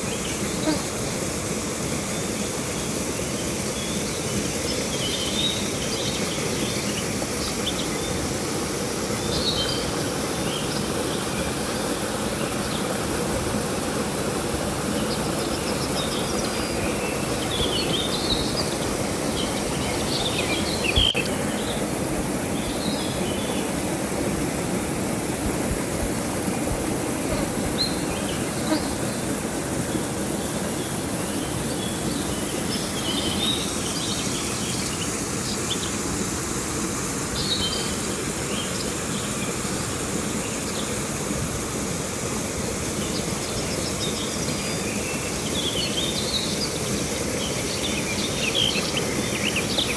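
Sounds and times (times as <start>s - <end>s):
insects humming: 0.0s - 49.9s
river water rushing: 0.0s - 49.9s.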